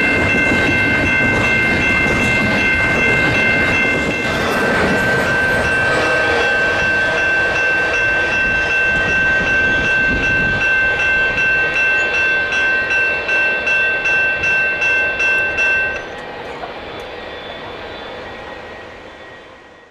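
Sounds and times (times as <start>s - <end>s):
railroad crossing bell ringing: 0.0s - 19.9s
train rumble and wheel clatter: 0.0s - 19.9s.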